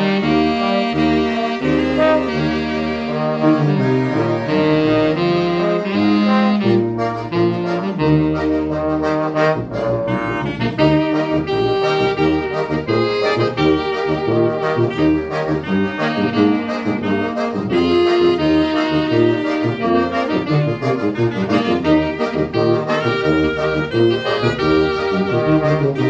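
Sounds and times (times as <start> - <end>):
tuba bass line: 0.0 - 26.0
wind ensemble with accordion: 0.0 - 26.0.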